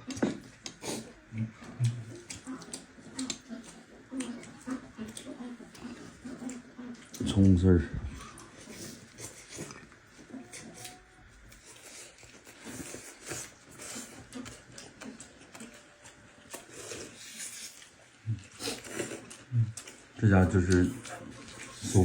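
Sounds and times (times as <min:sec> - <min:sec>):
people chewing food: 0:00.0 - 0:22.0.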